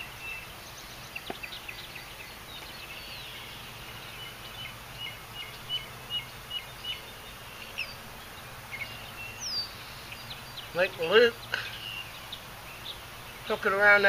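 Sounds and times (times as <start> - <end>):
birds chirping: 0.0 - 14.0
low outdoor hum and hiss: 0.0 - 14.0.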